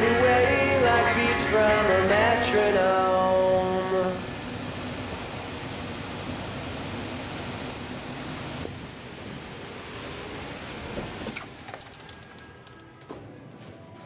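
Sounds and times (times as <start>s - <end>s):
rain hissing on pavement: 0.0s - 13.0s.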